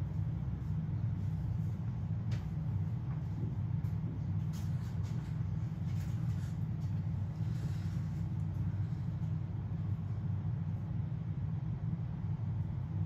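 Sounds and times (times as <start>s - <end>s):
constant hum: 0.0s - 13.0s
low mechanical rumble: 0.0s - 13.0s.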